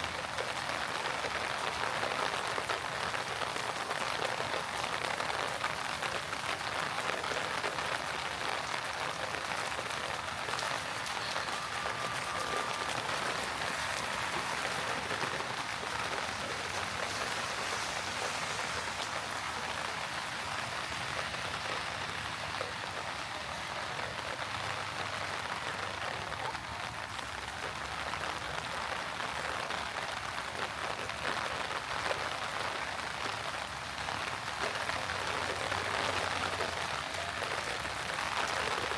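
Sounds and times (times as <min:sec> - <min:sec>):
heavy rain on pavement: 0:00.0 - 0:38.9.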